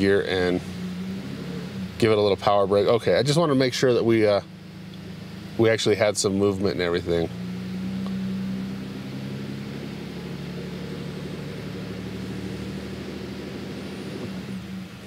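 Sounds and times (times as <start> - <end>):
engine drone at raised revs: 0.0 - 15.0.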